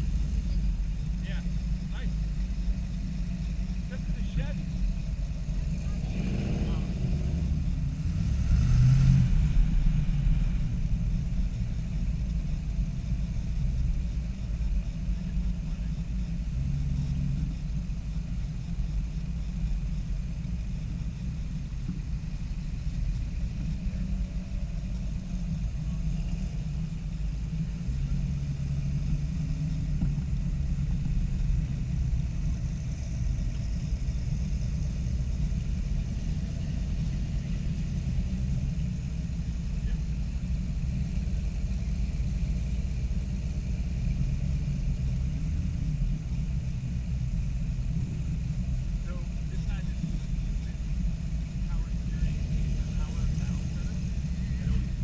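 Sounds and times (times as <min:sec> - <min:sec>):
car engines idling: 0:00.0 - 0:55.0.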